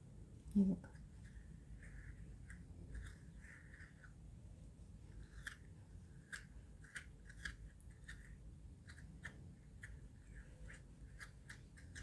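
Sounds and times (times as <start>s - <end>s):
spoon scraping kiwifruit: 0.9s - 12.0s.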